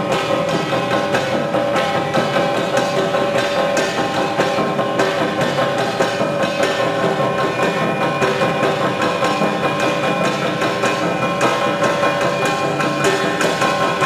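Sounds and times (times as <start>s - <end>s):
steady knocking beat: 0.0s - 14.0s.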